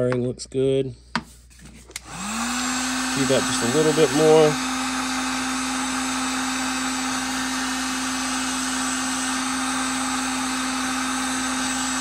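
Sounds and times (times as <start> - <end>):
heat gun fan whirring: 1.1 - 12.0.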